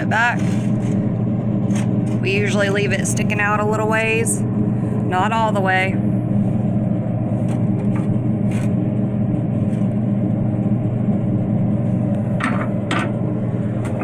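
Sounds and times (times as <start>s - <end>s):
heat gun motor and fan hum: 0.0s - 14.0s.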